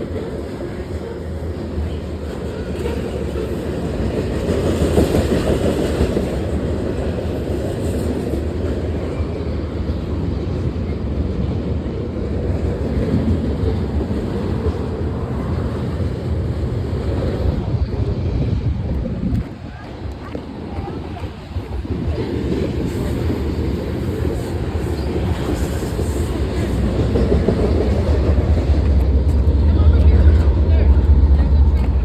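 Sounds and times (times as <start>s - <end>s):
train rumbling and rattling on rails: 0.0s - 32.0s.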